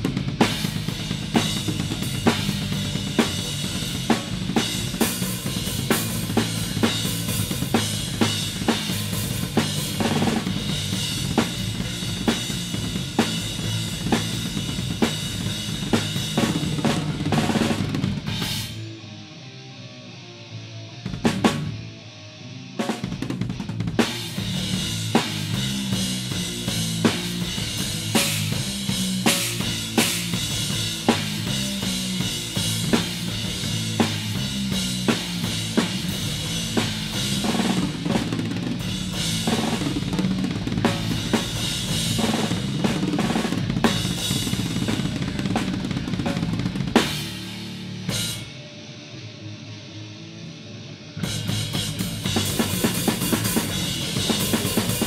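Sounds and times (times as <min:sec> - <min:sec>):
death metal drumming: 0:00.0 - 0:18.8, 0:23.1 - 0:48.5, 0:51.2 - 0:55.0.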